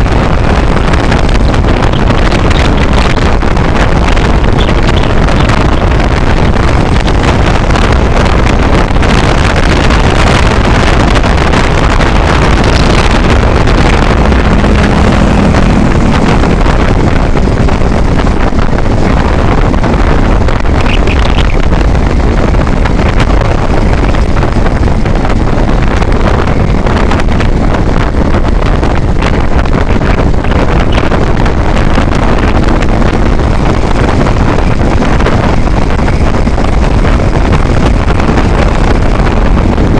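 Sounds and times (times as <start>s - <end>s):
road and engine noise: 0.0s - 39.9s
wind rush on microphone: 0.0s - 39.9s.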